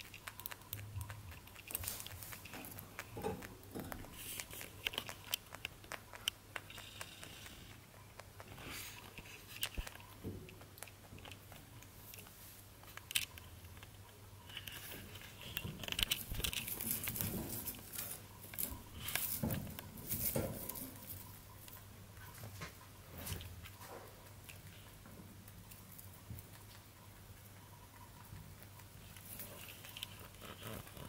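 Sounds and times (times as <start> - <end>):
rabbit crunching hay: 0.0 - 31.0.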